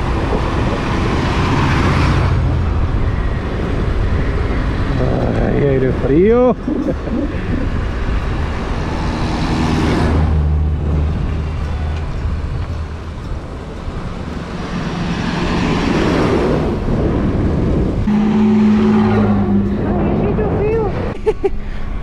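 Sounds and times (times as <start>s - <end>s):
wind rushing over microphone: 0.0s - 21.2s.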